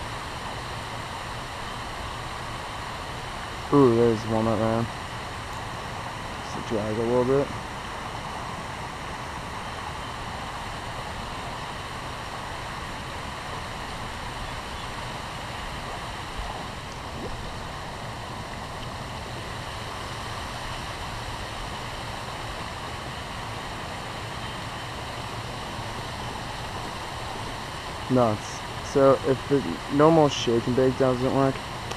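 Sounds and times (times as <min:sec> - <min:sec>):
river water flowing over rocks: 0:00.0 - 0:31.9.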